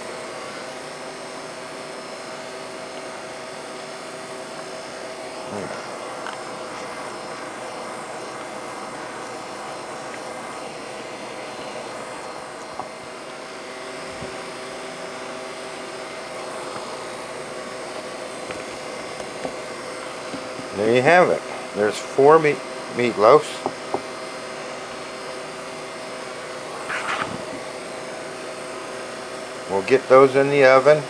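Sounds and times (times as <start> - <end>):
appliance motor hum: 0.0 - 31.0.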